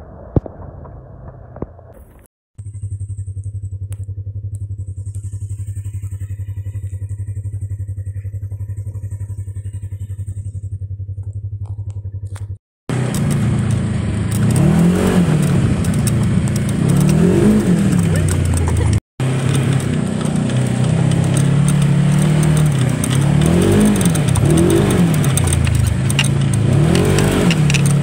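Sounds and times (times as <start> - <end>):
utility vehicle engine revving: 2.6 - 28.0.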